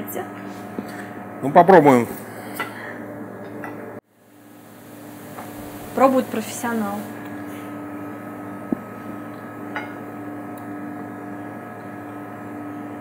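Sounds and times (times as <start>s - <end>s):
electrical hum of kitchen equipment: 0.0s - 13.0s.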